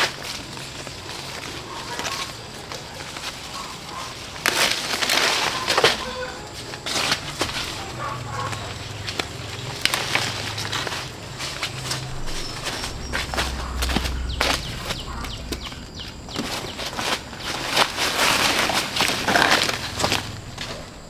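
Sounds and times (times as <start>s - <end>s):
rustling and crunching: 0.0s - 21.0s.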